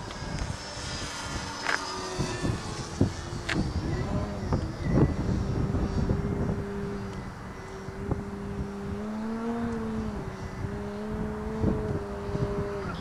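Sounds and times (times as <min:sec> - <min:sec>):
model plane engine droning: 0:00.0 - 0:13.0
wind buffeting microphone: 0:00.0 - 0:13.0.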